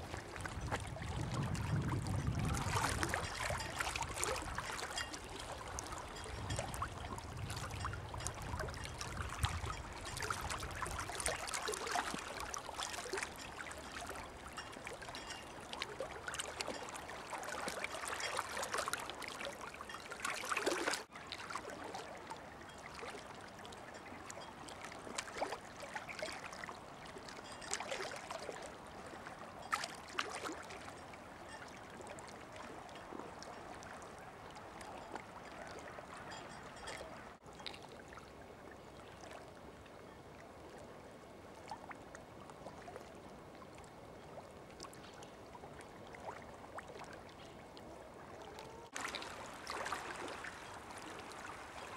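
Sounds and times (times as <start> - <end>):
water trickling and lapping: 0.0 - 51.9.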